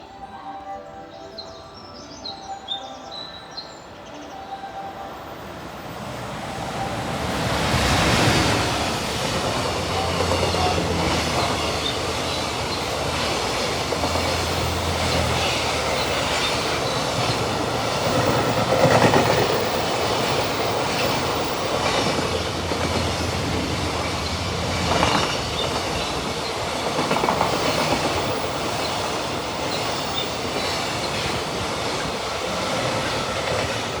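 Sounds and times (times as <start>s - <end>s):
freight train passing: 0.0s - 34.0s
wheels clacking over rail joints: 6.3s - 34.0s.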